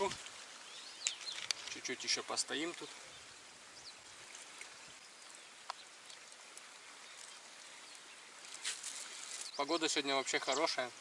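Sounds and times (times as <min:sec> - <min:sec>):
river flowing: 0:00.0 - 0:11.0.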